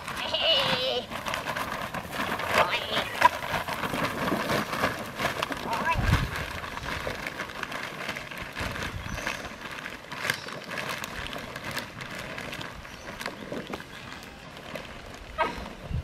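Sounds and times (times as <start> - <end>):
puppies scuffling and tugging: 0.0 - 16.0.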